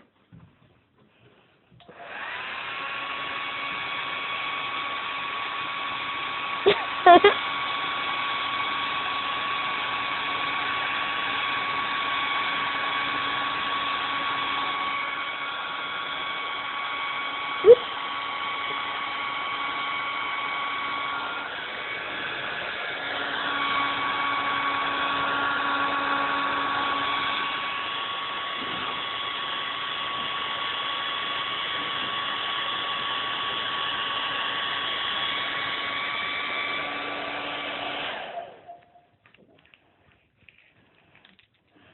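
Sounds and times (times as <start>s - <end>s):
hair dryer blowing: 1.8s - 38.8s.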